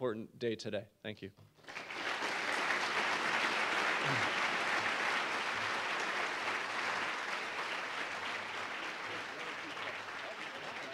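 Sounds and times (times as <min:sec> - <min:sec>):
audience applauding: 0:01.6 - 0:10.9.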